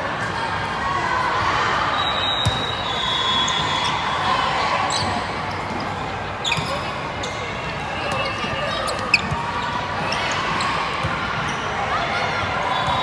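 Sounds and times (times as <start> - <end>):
echoing crowd chatter: 0.0 - 13.0.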